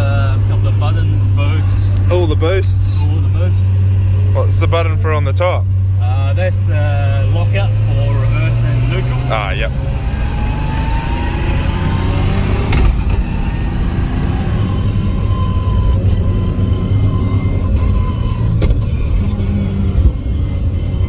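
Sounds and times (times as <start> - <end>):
car engine running loud: 0.0 - 21.0.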